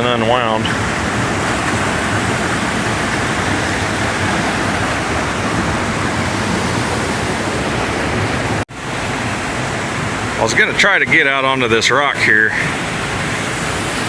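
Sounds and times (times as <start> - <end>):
creek water rushing over rocks: 0.0 - 14.0.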